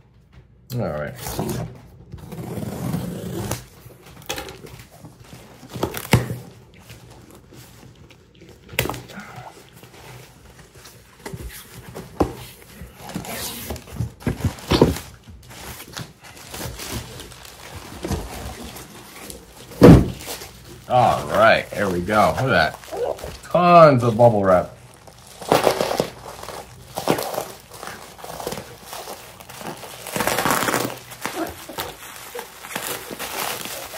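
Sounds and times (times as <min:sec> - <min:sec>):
bubble wrap rustling and crinkling: 0:01.1 - 0:33.9.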